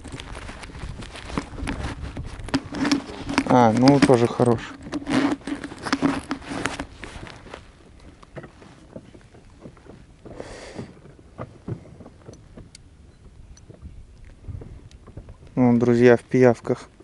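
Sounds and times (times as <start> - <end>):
knocks and rubbing in boat: 0.0 - 17.0
rippling water: 0.0 - 17.0
wind: 0.0 - 17.0.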